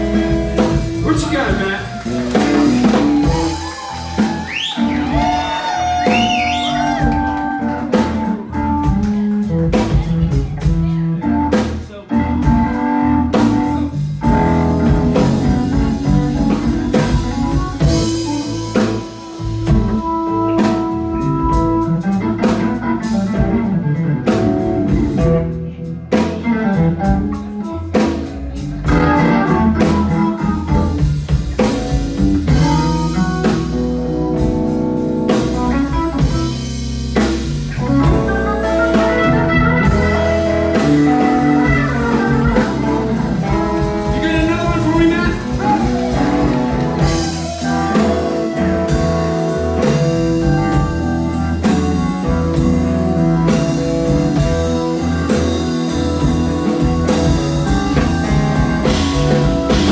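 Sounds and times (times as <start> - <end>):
electric guitar: 0.0 - 59.9
live electric blues band: 0.0 - 59.9.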